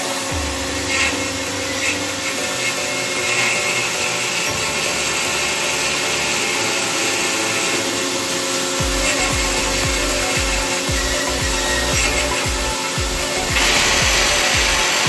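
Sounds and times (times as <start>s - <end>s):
drilling rig drilling rock: 0.0s - 15.0s
steady mechanical whine: 0.0s - 15.0s.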